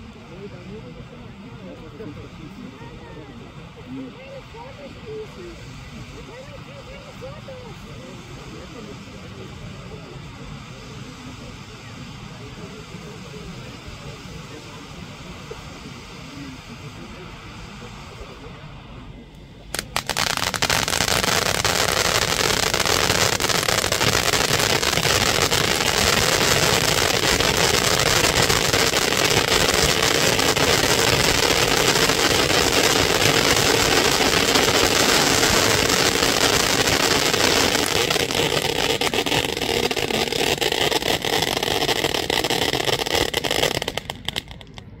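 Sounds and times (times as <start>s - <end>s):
firework fountain hissing and crackling: 0.0s - 45.0s.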